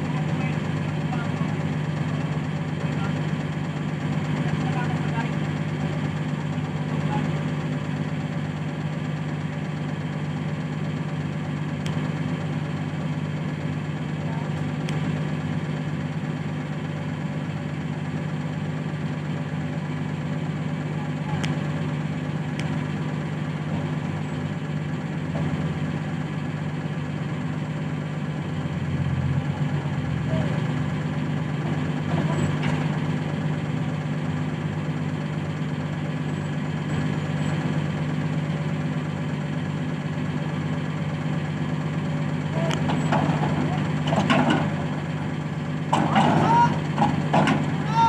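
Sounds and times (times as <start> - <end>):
heavy equipment engine idling: 0.0 - 48.0.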